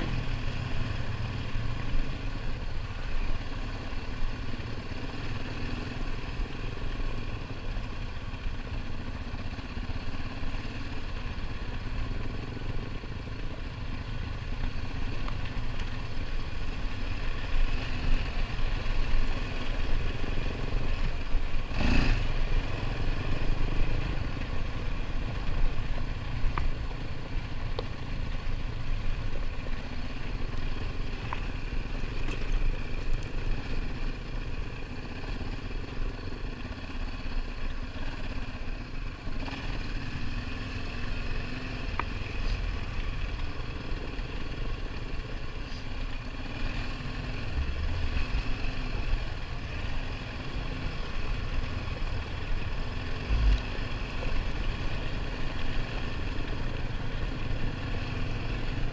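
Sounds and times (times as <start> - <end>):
atv engine running: 0.0 - 58.9.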